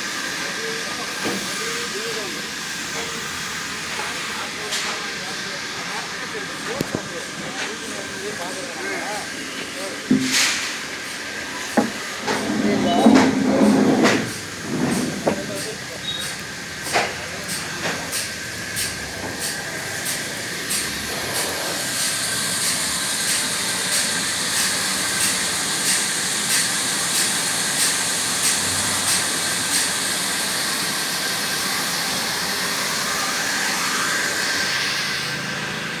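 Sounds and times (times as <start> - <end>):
sawmill machinery hiss: 0.0 - 36.0.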